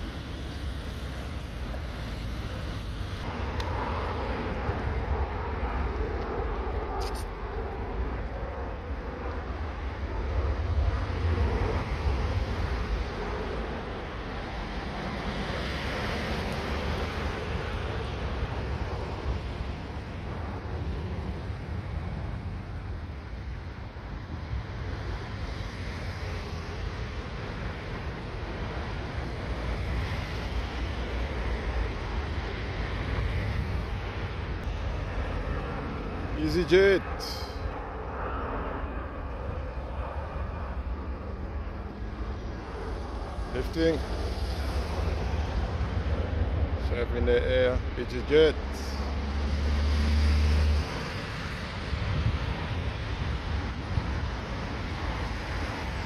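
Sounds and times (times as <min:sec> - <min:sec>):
distant jet aircraft: 0:00.0 - 0:56.0
wind rumble on microphone: 0:00.0 - 0:56.0.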